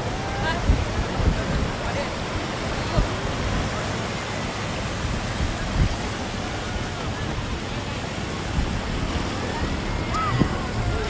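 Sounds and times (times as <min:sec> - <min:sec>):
sea surf breaking: 0:00.0 - 0:11.0
wind buffeting microphone: 0:00.0 - 0:11.0.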